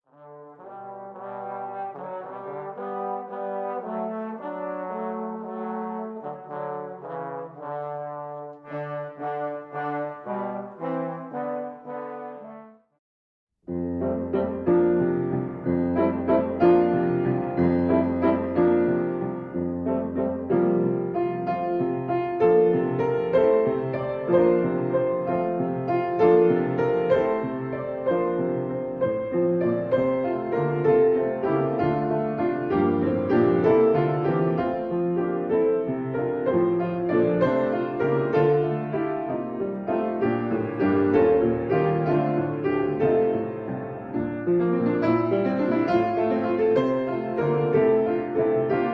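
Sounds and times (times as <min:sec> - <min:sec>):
piano piece: 0:00.0 - 0:13.0, 0:13.6 - 0:48.9.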